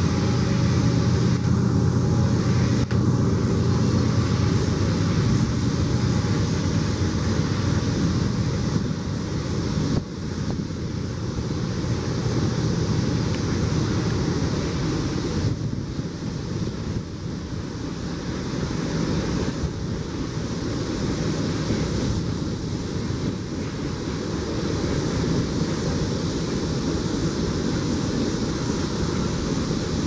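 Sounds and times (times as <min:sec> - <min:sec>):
train rumbling across steel bridge: 0:00.0 - 0:30.0
wind noise on microphone: 0:00.0 - 0:30.0.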